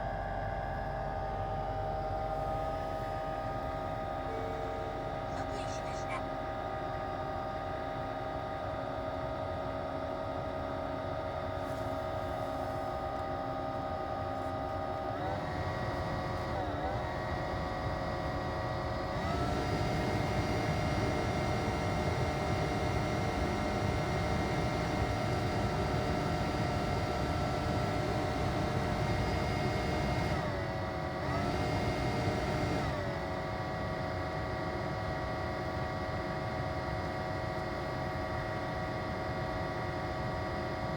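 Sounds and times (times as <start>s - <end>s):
blower fan whine: 0.0s - 40.9s.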